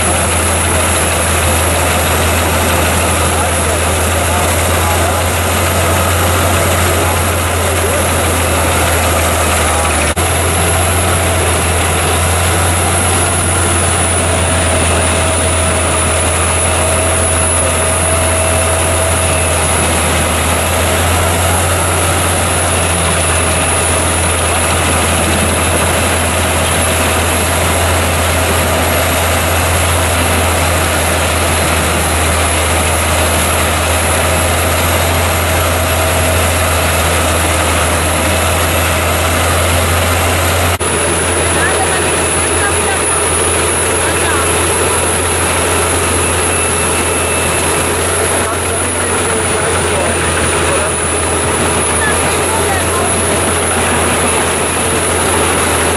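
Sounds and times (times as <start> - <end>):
high whine: 0.0 - 55.9
wood chipper deep drone: 0.0 - 55.9.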